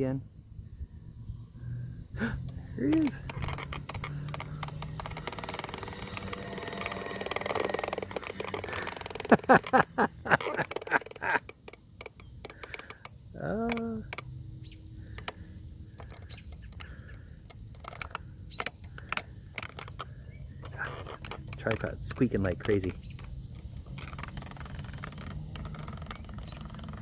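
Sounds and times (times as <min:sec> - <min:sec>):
tripod head squeaking and creaking: 0:02.4 - 0:27.0.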